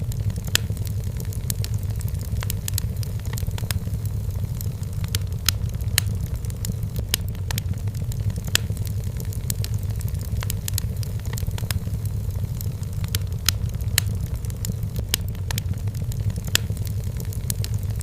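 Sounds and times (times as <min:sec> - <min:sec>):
steady low rumble: 0:00.0 - 0:18.0
wood fire crackling and popping: 0:00.0 - 0:18.0.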